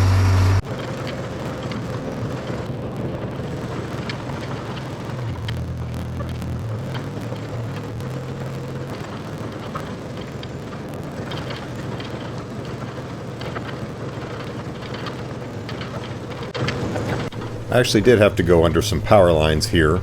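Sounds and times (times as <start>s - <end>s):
excavator diesel engine running: 0.0s - 20.0s
undercarriage clanks and rattles: 0.6s - 20.0s.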